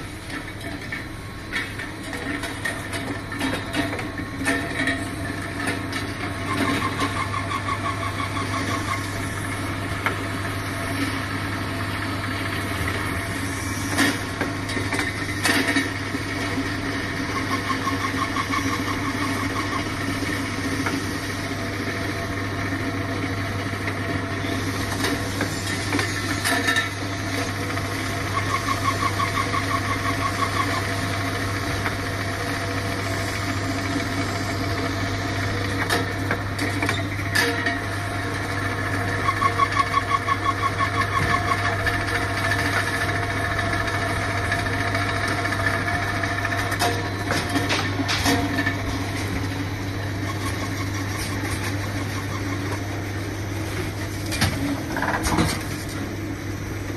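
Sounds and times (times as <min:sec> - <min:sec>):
machinery humming: 0:00.0 - 0:56.9.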